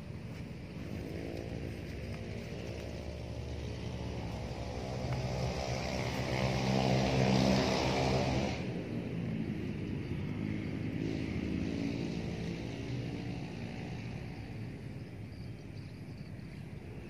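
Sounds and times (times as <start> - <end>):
motor engine passing close by: 0.0 - 17.0.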